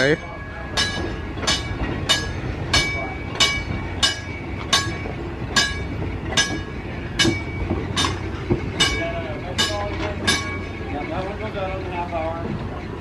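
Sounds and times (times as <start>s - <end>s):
streetcar wheels clicking on rails: 0.0s - 13.0s.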